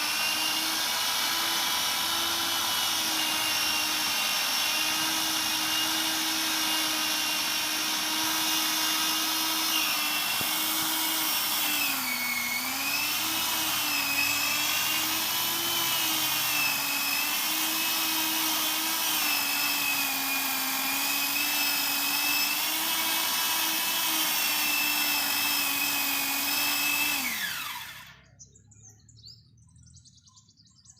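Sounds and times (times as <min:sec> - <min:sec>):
power saw cutting wood: 0:00.0 - 0:28.2.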